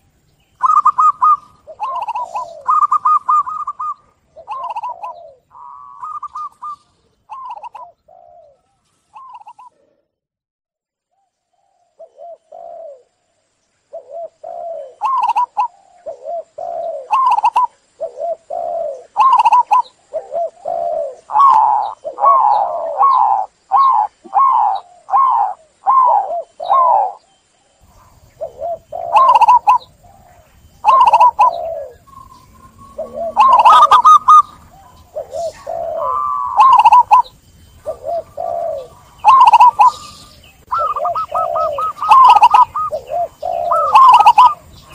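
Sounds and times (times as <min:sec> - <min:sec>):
doves cooing: 0:00.0 - 0:10.1, 0:11.6 - 0:13.2, 0:13.9 - 0:44.9.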